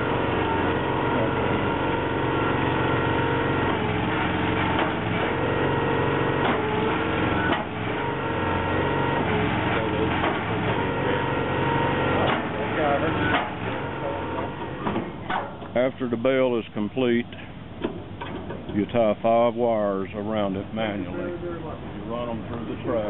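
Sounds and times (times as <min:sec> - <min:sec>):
baler engine and hydraulics humming: 0:00.0 - 0:23.0.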